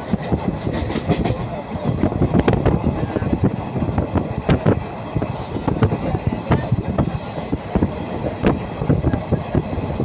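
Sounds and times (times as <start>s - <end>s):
train wheels clattering on rails: 0.0s - 10.0s.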